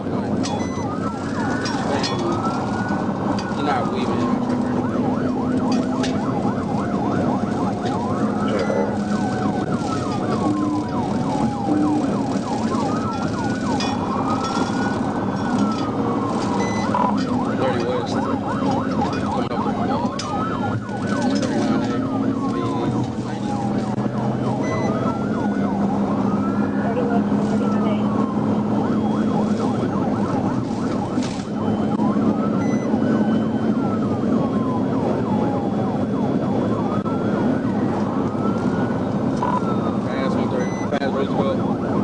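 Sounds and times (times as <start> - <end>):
engine and road noise: 0.0 - 42.0
police siren wailing: 0.0 - 42.0
police siren yelping: 0.0 - 42.0.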